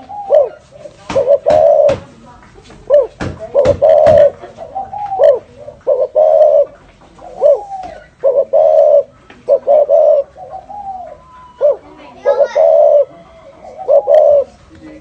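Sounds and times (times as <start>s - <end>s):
dove cooing: 0.0s - 2.1s, 2.8s - 15.0s.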